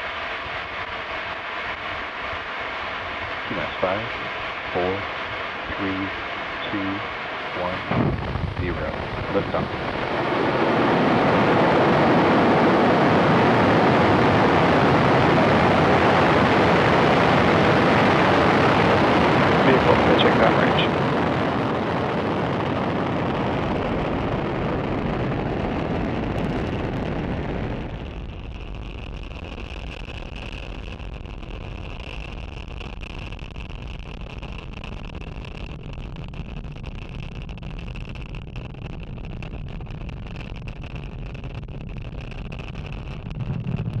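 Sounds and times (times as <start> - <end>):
rocket engines rumbling: 0.0 - 44.0.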